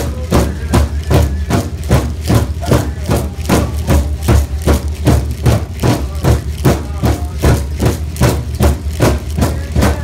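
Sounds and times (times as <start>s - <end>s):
large drum beating: 0.0s - 10.0s.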